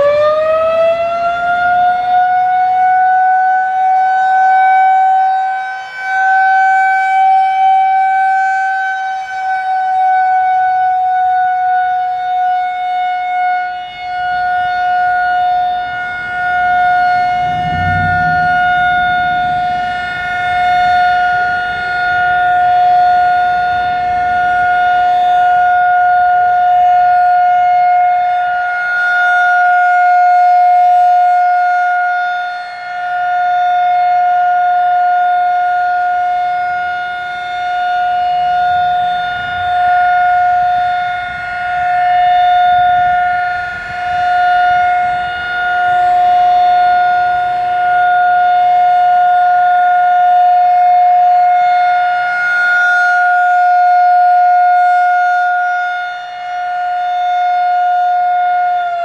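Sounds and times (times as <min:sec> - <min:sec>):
single-tone siren wailing: 0:00.0 - 0:59.0.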